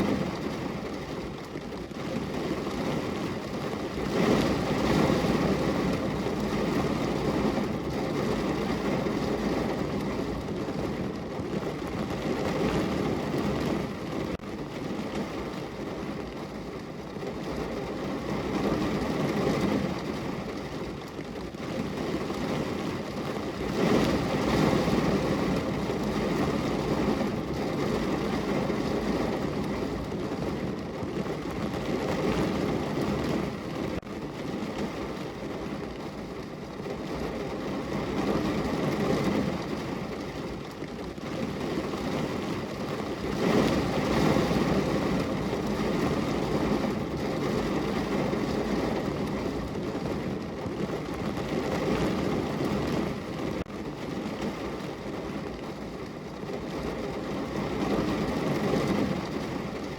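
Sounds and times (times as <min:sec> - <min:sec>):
heavy rain on car roof: 0:00.0 - 0:59.9.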